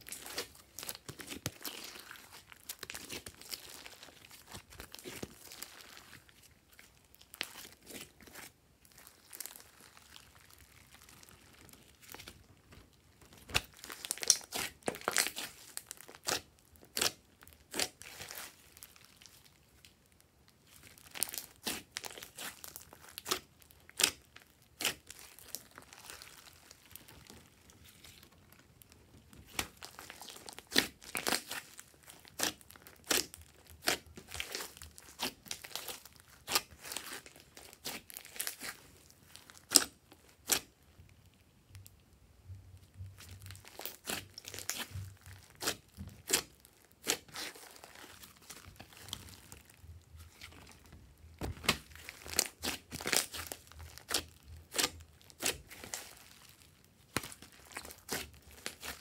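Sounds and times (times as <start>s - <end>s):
hands squishing slime: 0.0s - 41.0s, 42.8s - 59.0s.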